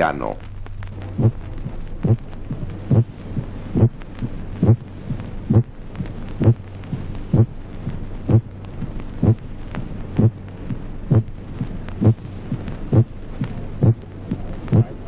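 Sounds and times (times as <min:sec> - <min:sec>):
heart beating: 0:00.0 - 0:15.0
steady low hum: 0:00.0 - 0:15.0.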